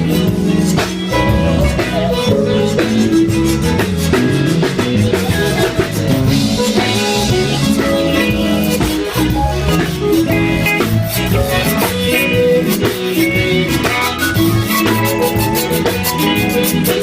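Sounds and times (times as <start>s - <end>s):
zydeco band playing: 0.0s - 17.0s.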